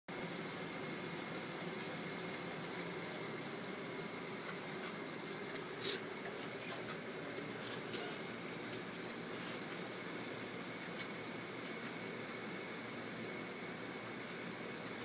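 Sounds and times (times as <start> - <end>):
room hum: 0.1 - 15.0.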